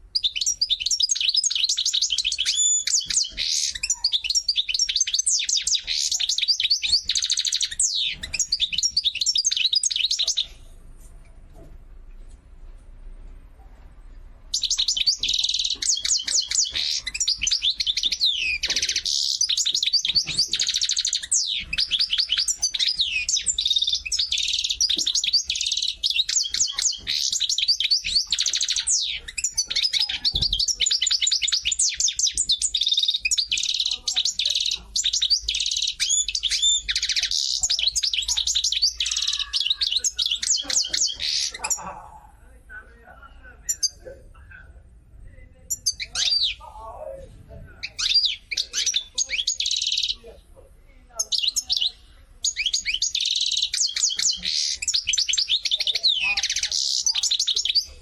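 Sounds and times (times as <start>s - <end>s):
songbird chirping and trilling: 0.0s - 11.4s, 12.2s - 58.0s.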